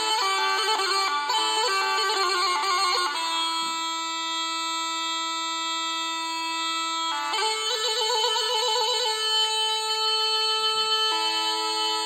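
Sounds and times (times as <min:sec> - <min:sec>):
solo melody instrument with trills: 0:00.0 - 0:12.0.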